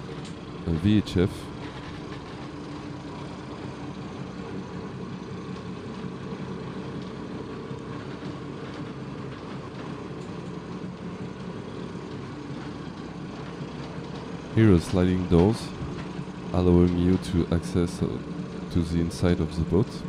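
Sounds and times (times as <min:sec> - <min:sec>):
diesel engines idling: 0:00.0 - 0:20.0.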